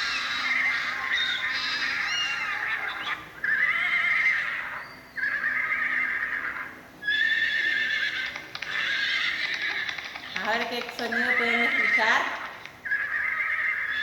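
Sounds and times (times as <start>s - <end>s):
horse whinnying: 0.0s - 10.4s, 11.4s - 14.0s.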